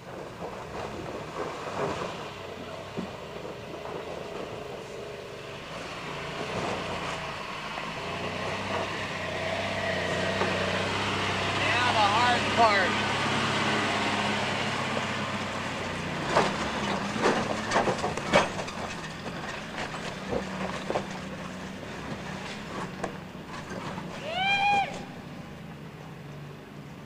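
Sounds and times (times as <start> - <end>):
pickup truck engine running: 0.0 - 27.0.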